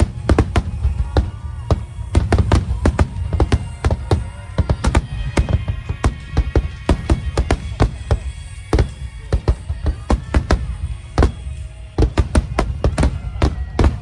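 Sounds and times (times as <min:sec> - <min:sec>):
fireworks bangs: 0:00.0 - 0:14.0
music playing: 0:00.0 - 0:14.0.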